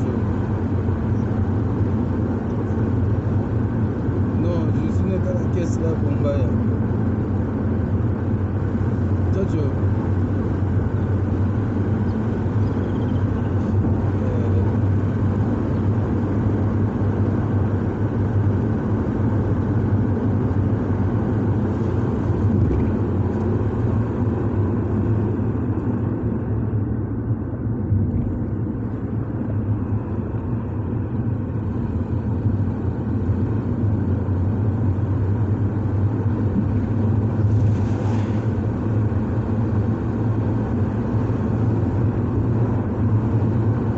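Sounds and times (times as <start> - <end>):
car engine rumble: 0.0 - 43.9
tyre and road noise: 0.0 - 43.9.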